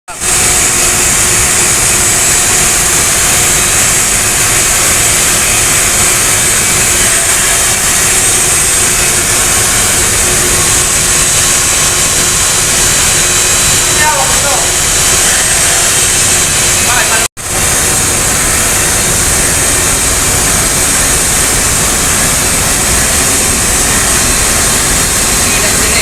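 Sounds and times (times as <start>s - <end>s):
fan air rushing: 0.1s - 26.0s
machine hum: 0.1s - 26.0s.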